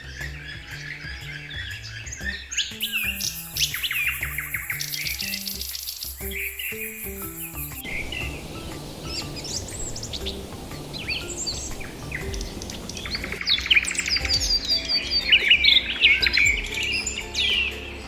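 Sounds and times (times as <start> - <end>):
rapid bird trill: 0.0 - 18.0
small birds chirping: 0.0 - 18.0.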